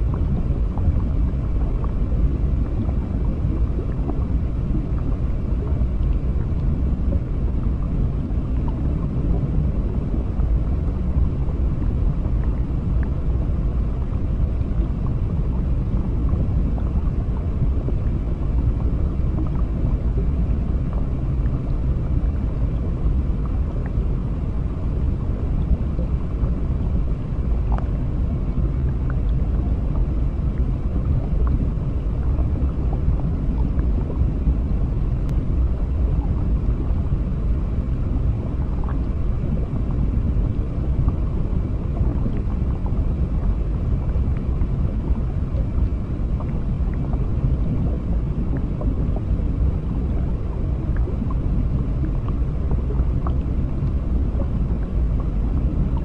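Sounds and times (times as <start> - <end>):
underwater rumble of water: 0.0 - 56.0.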